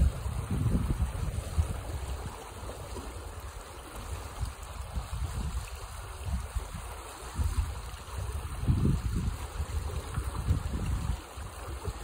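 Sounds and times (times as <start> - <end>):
water rushing down channel: 0.0 - 12.0
wind rumble on microphone: 0.0 - 12.0.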